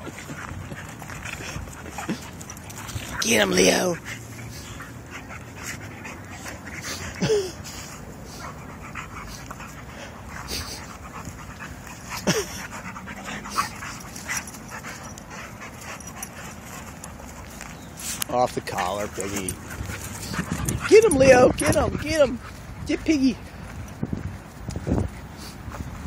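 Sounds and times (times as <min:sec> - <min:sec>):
dogs scuffling: 0:00.0 - 0:06.8, 0:08.4 - 0:22.8.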